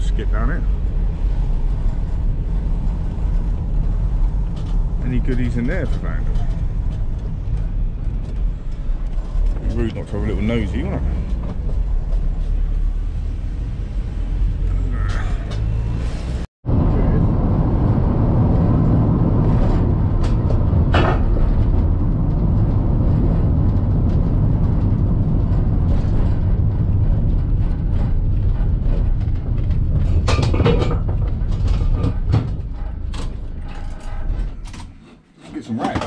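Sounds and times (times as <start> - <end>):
knocks and rattles: 0.4 - 16.0, 18.4 - 36.0.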